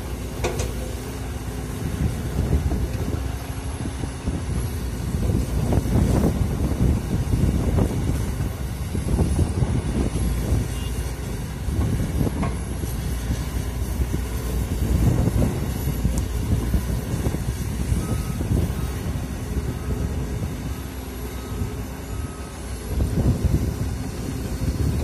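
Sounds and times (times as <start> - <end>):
excavator diesel engine under load: 0.0 - 25.0.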